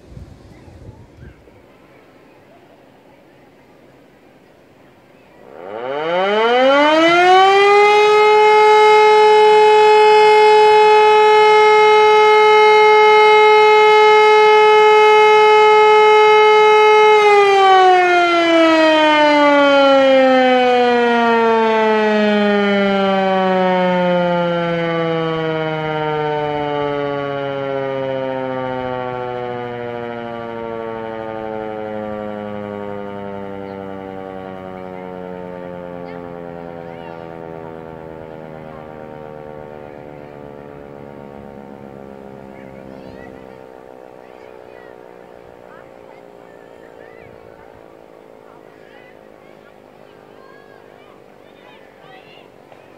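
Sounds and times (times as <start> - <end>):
civil defence siren: 1.6 - 52.9.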